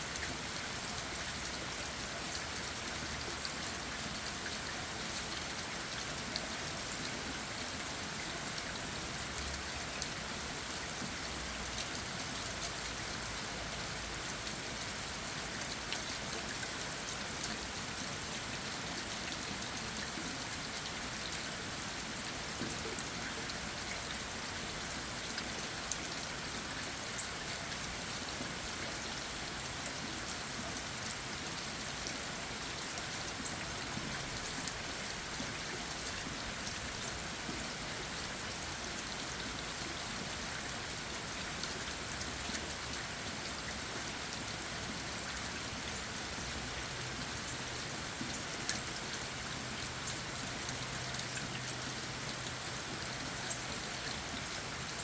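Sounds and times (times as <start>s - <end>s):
rain on leaves and ground: 0.0s - 55.0s.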